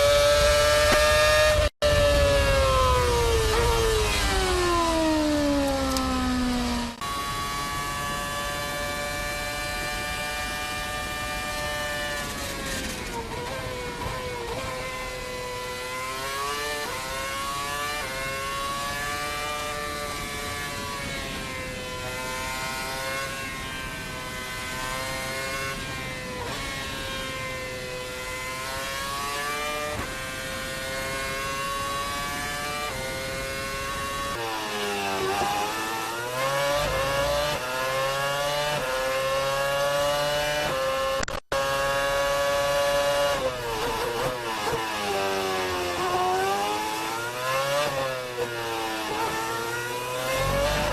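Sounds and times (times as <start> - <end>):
racing car engine revving: 0.0 - 50.9.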